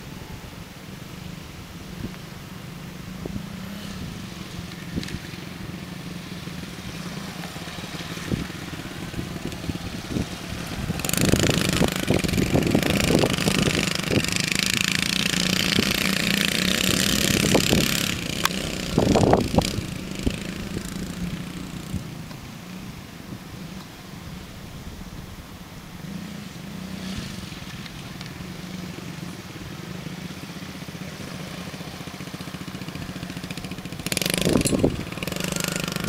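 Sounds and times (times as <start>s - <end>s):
dirt bike engine running: 2.7s - 22.2s, 26.1s - 36.0s.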